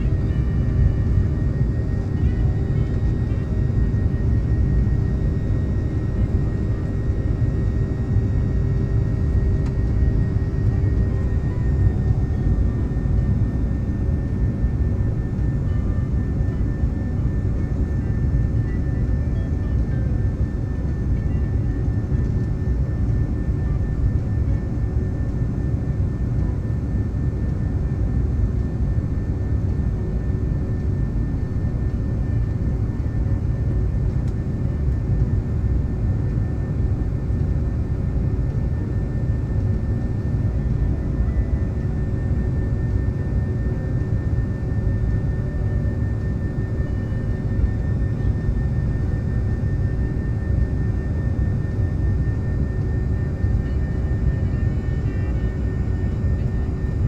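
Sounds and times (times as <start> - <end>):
faint constant whine: 0.0 - 57.0
jet cabin engine rush: 0.0 - 57.0.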